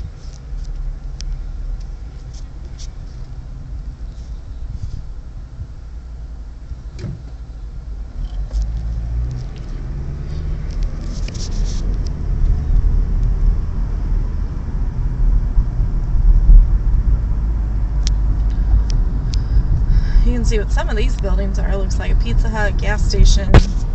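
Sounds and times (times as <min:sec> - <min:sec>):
road and engine rumble: 0:00.0 - 0:23.9.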